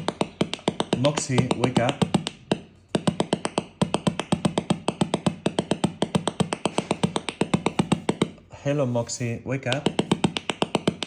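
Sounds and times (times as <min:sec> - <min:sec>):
speaker clicking rapidly: 0:00.0 - 0:08.4, 0:09.6 - 0:11.0.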